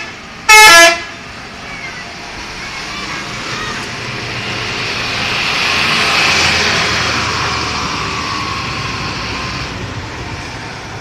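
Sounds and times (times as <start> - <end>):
bus driving past: 0.0 - 11.0.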